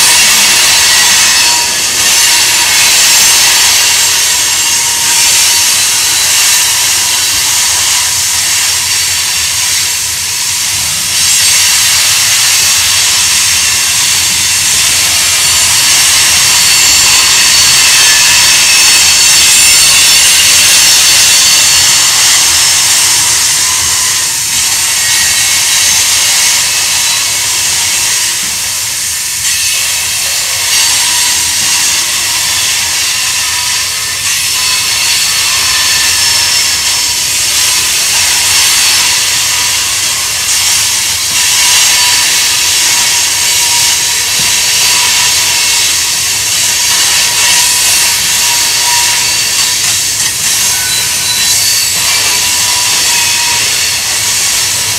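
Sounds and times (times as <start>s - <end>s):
train wheels squealing: 0.0s - 54.9s.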